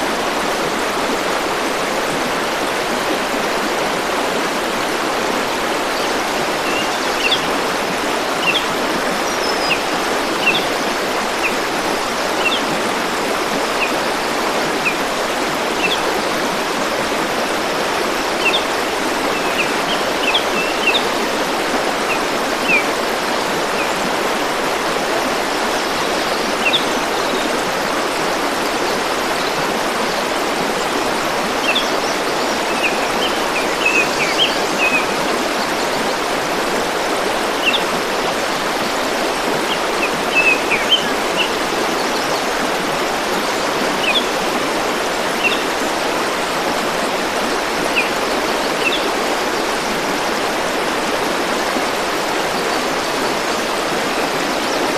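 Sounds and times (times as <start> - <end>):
forest stream flowing: 0.0 - 54.9.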